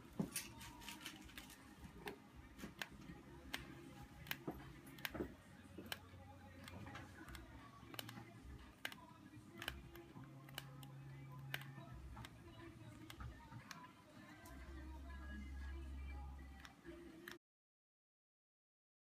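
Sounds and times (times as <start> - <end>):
phone screen clicking and creaking: 0.4 - 14.6, 16.4 - 17.4.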